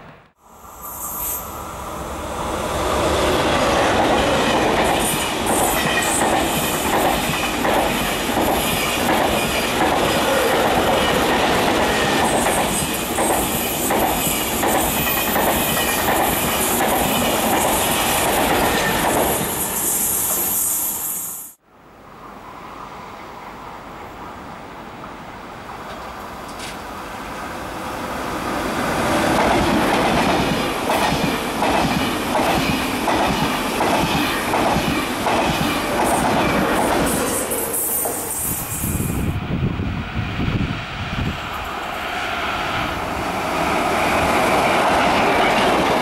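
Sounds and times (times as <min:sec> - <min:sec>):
high-speed train passing: 0:00.0 - 0:46.0.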